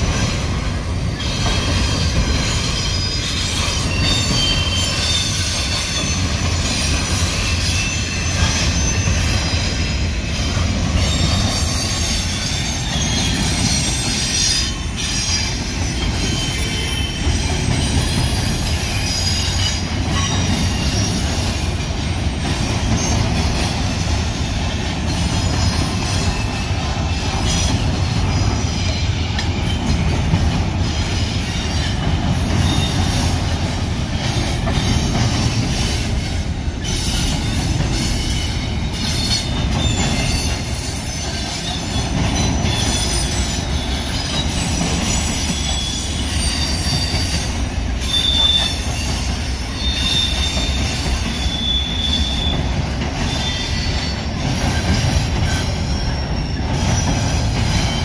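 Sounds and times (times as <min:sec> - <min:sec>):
freight train cars rumbling: 0:00.0 - 0:58.0
high wheel squeal: 0:00.0 - 0:58.0.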